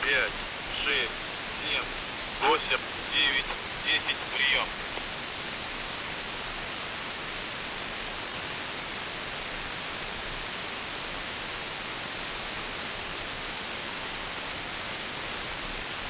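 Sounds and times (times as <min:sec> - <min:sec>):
shortwave radio static hiss: 0:00.0 - 0:16.0.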